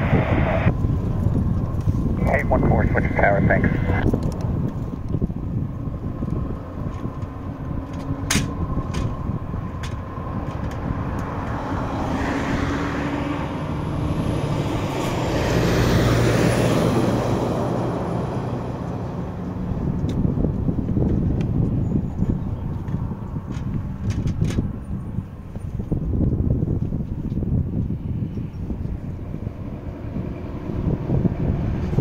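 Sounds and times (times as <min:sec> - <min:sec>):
high engine whine: 0:00.0 - 0:32.0
jet engines deep rumble: 0:00.0 - 0:32.0.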